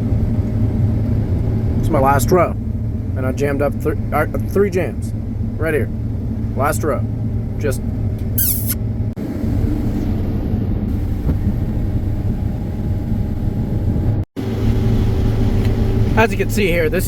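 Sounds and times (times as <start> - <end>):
combine harvester engine hum: 0.0 - 17.0.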